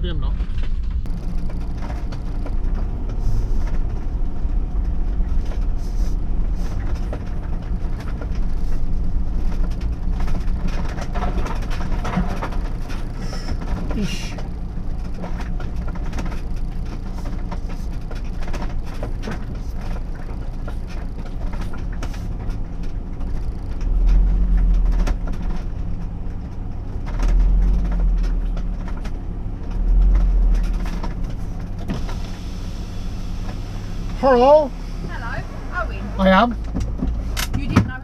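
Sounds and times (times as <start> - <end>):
deep low rumble: 0.0 - 38.0
motorhome engine running: 0.0 - 38.0.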